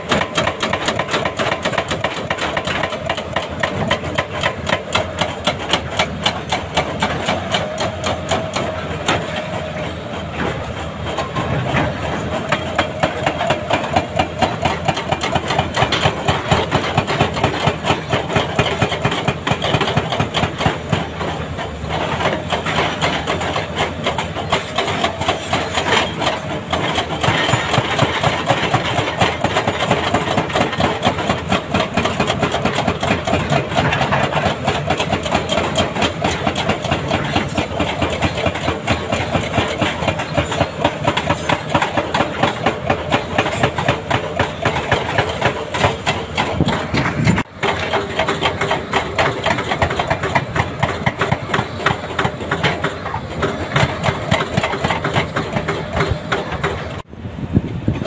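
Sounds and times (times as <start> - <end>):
hydraulic breaker hammering rock: 0.0 - 57.1
diesel engines running: 0.0 - 58.0.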